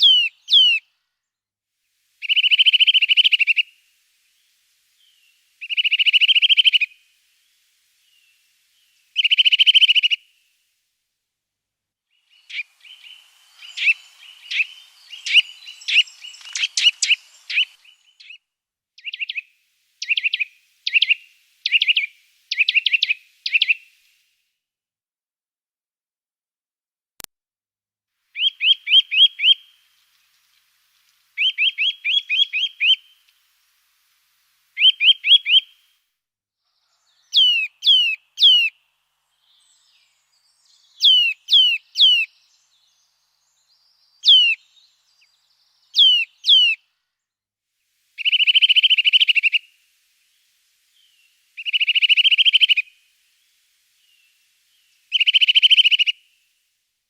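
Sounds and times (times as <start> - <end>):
songbird singing: 0.0 - 1.3, 1.9 - 10.9, 12.0 - 24.2, 28.3 - 35.9, 36.7 - 47.3, 47.9 - 56.7.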